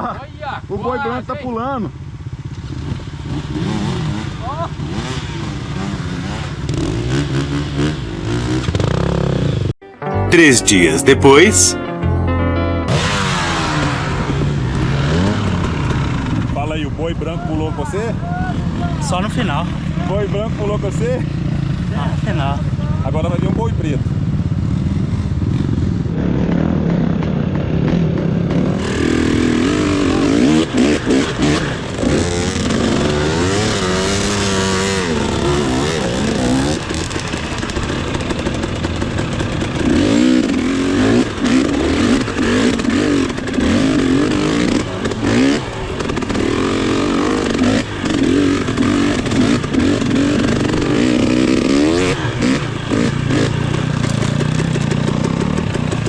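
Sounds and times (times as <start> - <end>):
motorcycle engine revving: 0.0 - 9.8, 12.9 - 56.0
motorcycle rattling: 0.0 - 9.8, 12.9 - 56.0.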